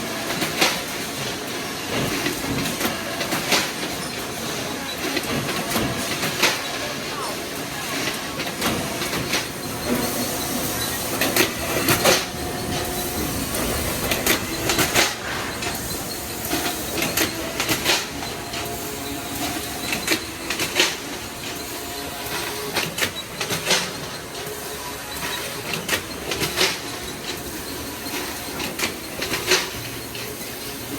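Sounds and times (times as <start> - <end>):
welding machine hiss: 0.0 - 30.9.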